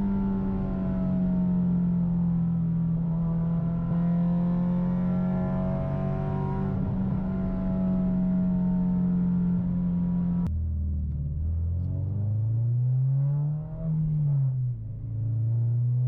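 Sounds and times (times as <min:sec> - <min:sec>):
car engine through loud exhaust: 0:00.0 - 0:16.0.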